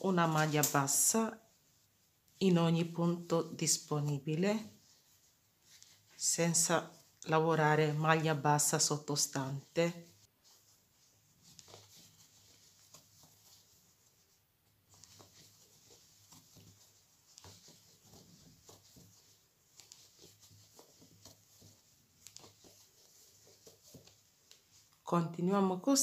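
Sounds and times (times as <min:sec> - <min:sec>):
yarn rustling: 0:00.0 - 0:25.1.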